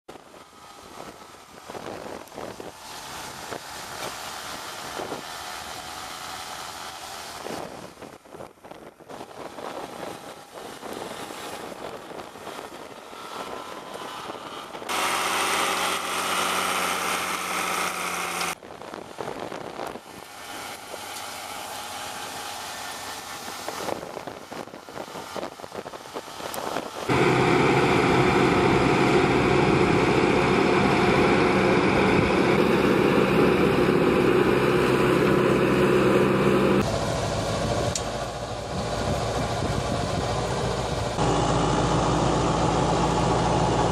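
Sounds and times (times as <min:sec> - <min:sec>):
loud steady engine: 0:00.1 - 0:43.9
tractor engines running: 0:00.1 - 0:43.9.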